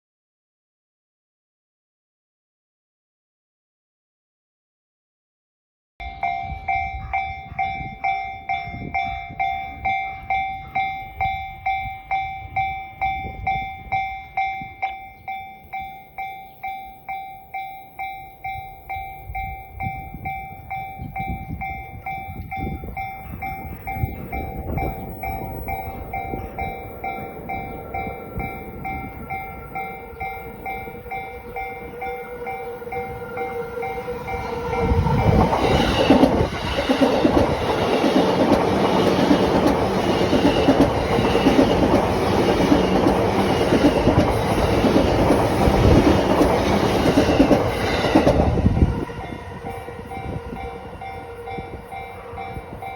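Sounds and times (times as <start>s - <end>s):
level-crossing warning bell: 6.0s - 52.9s
train approaching: 6.0s - 52.9s.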